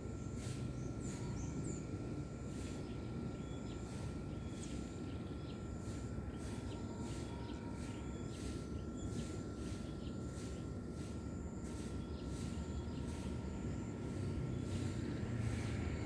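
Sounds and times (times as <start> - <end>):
thin whine: 0.0 - 16.0
insects chirping in pulses: 0.2 - 16.0.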